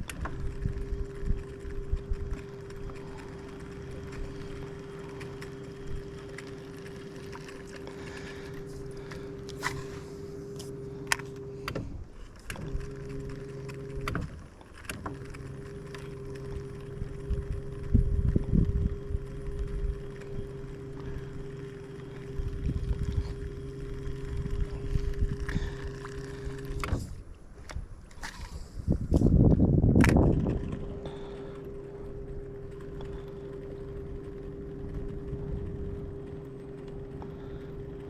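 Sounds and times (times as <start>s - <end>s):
electric boat motor humming: 0.0s - 38.0s.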